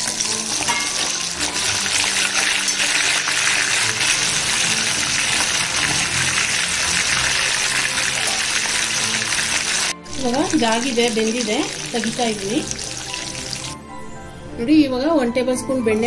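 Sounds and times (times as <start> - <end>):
oil bubbling and sizzling: 0.0 - 13.8.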